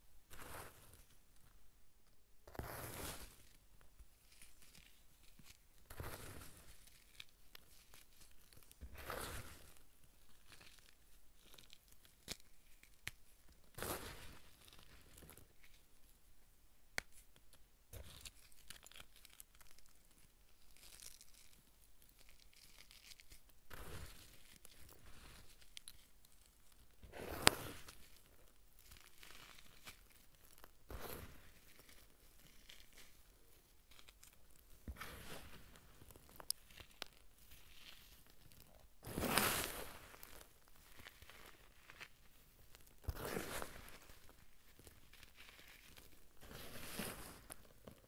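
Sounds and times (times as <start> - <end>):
fingers crushing crumbly chunks: 4.2 - 15.8, 16.9 - 48.0.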